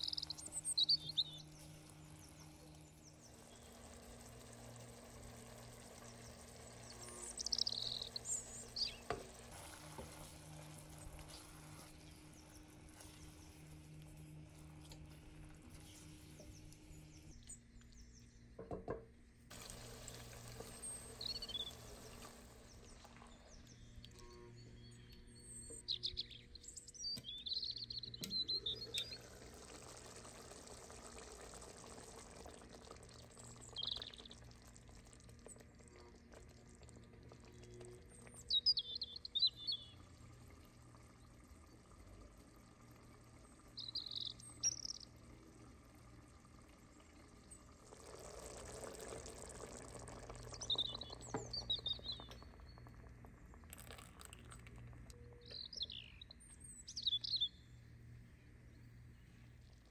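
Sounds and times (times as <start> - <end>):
soft pouring noise: 0.0 - 18.1, 19.5 - 26.2, 27.4 - 59.9
small birds chirping: 0.0 - 18.8, 19.5 - 31.4, 32.4 - 59.9.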